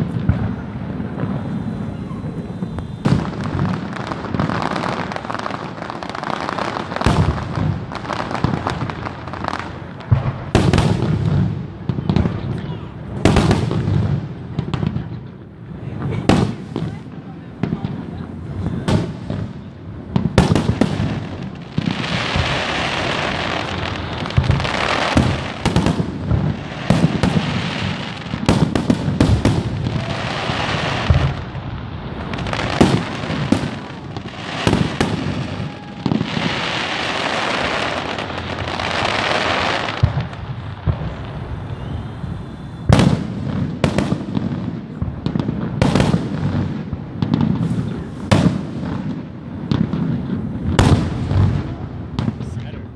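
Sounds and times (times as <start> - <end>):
firework shells booming: 0.0 - 52.6
crackling hiss of fireworks: 0.0 - 52.9.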